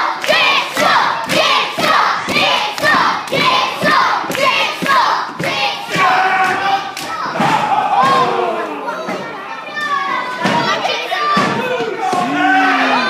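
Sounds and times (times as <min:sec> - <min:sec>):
crowd chanting and shouting: 0:00.0 - 0:13.0.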